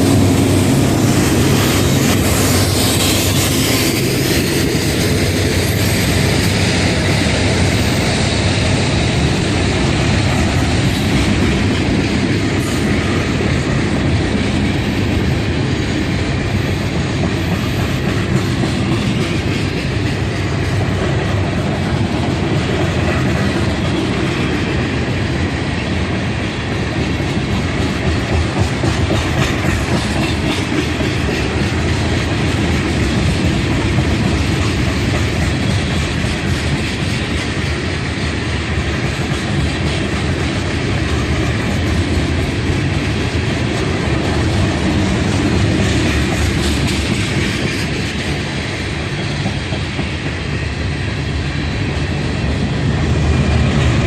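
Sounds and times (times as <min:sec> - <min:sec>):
train cars rumbling: 0:00.0 - 0:54.0.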